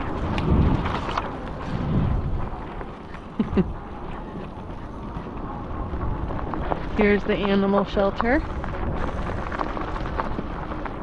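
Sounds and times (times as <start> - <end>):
bike knocking and rattling: 0.0 - 11.0
wind buffeting microphone: 0.0 - 11.0.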